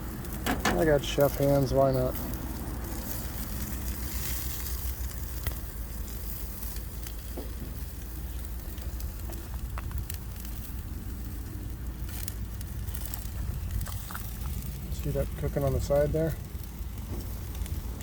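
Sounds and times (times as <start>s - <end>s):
food sizzling on a grill: 0.0s - 18.0s
low rumble: 0.0s - 18.0s.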